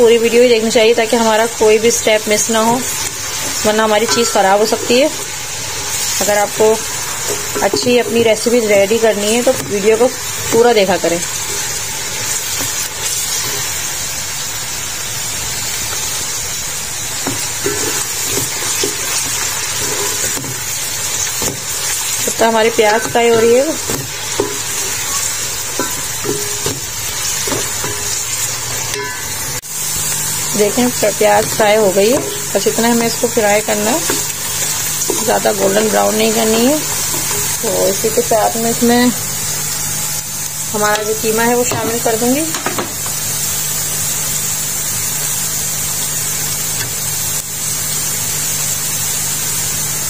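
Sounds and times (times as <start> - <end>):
onions sizzling in hot oil: 0.0 - 50.0.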